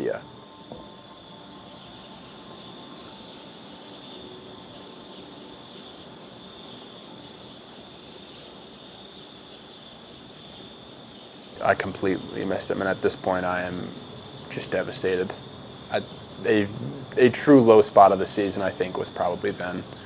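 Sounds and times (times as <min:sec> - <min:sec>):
high insect drone: 0:00.0 - 0:20.0
small birds chirping: 0:00.0 - 0:20.0.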